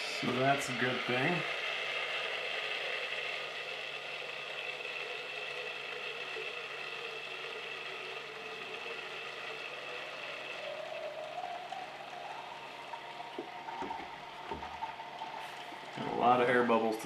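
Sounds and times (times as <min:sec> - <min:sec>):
pump whirring: 0:00.0 - 0:17.0
coolant churning with air bubbles: 0:00.1 - 0:17.0.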